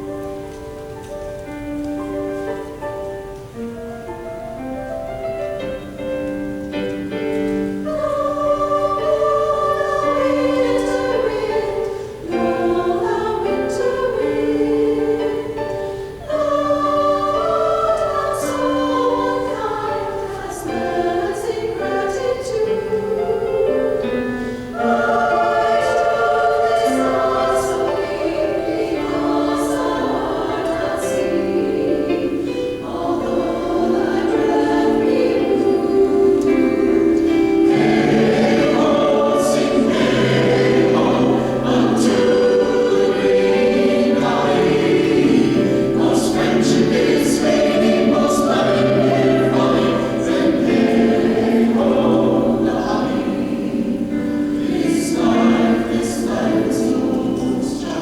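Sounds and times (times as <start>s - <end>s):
choir singing: 5.8s - 58.0s.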